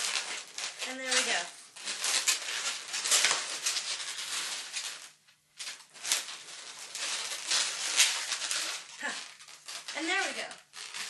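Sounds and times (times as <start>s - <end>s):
balloons rubbing and squeaking: 0.0s - 5.2s, 5.8s - 11.0s.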